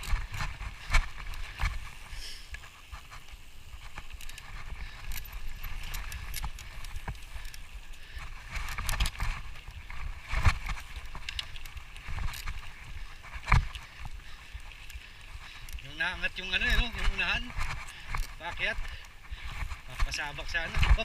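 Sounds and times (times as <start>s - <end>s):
footsteps on trail: 0.0s - 21.0s
wind rumble on microphone: 0.0s - 21.0s.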